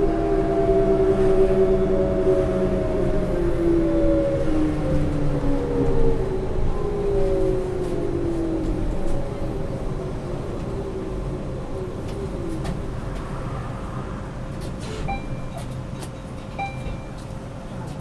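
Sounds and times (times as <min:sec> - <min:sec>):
bus interior low rumble: 0:00.0 - 0:18.0.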